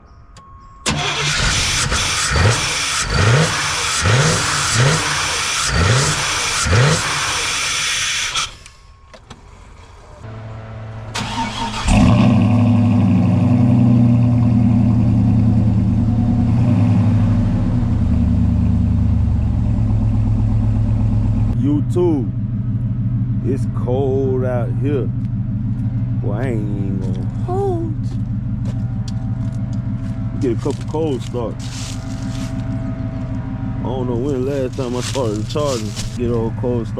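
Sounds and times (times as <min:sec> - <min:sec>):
car engine cranking: 0:00.8 - 0:10.2, 0:11.0 - 0:21.6, 0:22.2 - 0:36.9
car engine idling: 0:00.8 - 0:36.9.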